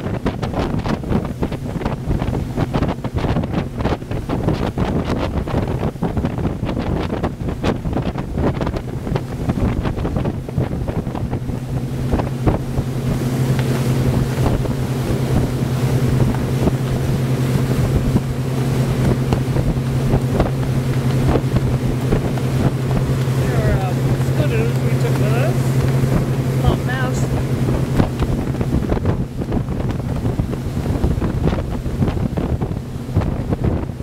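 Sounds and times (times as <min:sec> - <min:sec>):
boat engine drone: 0:00.0 - 0:34.0
wind buffeting microphone: 0:00.0 - 0:34.0.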